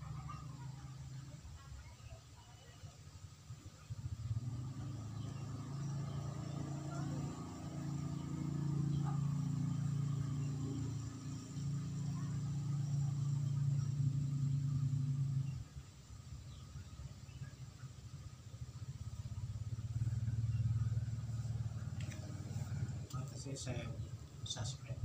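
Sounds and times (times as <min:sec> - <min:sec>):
low engine hum: 0:03.2 - 0:25.0.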